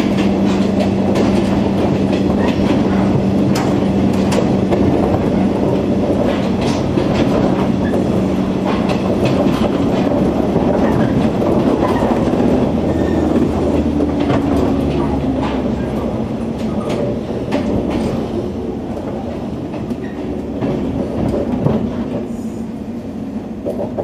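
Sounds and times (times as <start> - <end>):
wheels clacking over rail joints: 0.0 - 22.4
train car rumble and hum: 0.0 - 24.0.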